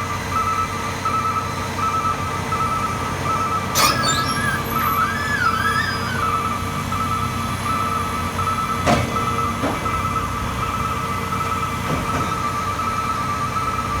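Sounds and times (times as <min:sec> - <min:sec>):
fire truck engine running: 0:00.0 - 0:14.0.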